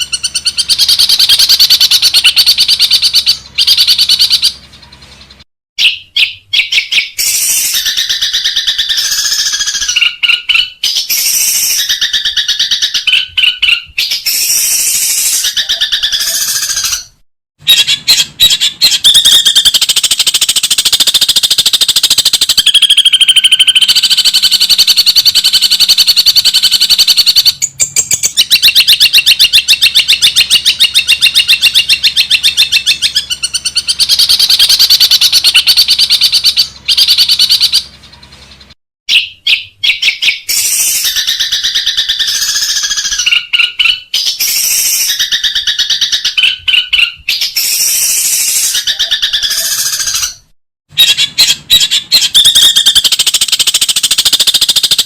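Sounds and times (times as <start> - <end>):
bird song rapid chattering: 0.0 - 55.0.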